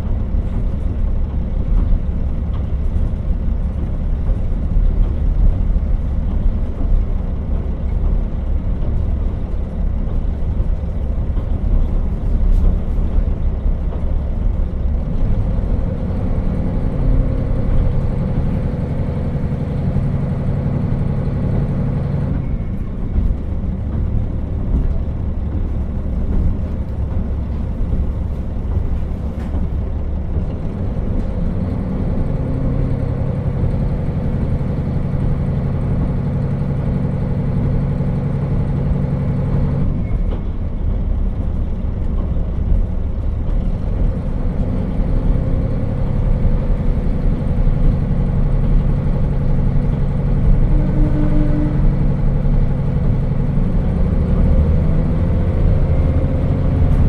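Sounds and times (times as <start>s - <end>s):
railcar diesel engine running: 0.0s - 57.0s
wheels rumbling on track: 0.0s - 57.0s.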